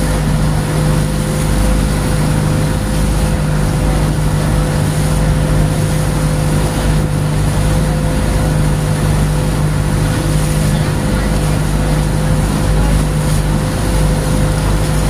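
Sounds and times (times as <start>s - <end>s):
boat engine humming: 0.0s - 15.0s
water rushing along hull: 0.0s - 15.0s.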